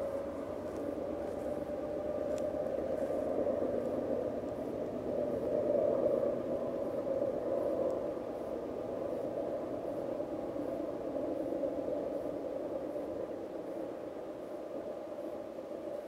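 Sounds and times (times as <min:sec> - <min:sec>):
distant diesel locomotives droning: 0:00.0 - 0:16.0.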